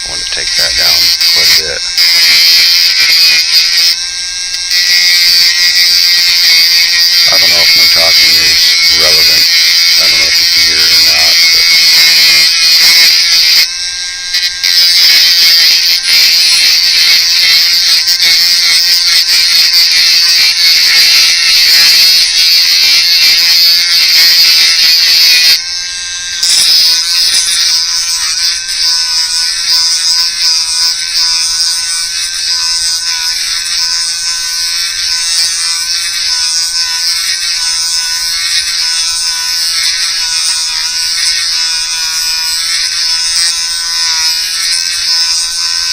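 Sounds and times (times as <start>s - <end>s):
rotary tool grinding plastic: 0.0s - 45.9s.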